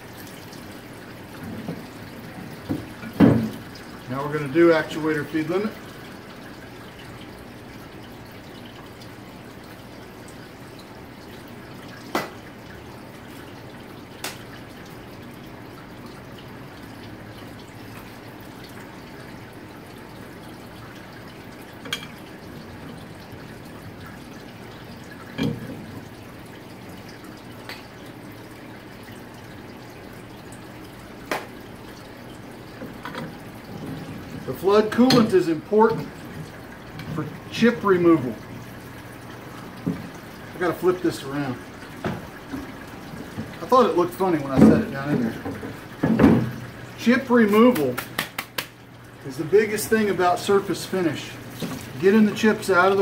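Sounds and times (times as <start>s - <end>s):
coolant trickling and dripping: 0.0s - 53.0s.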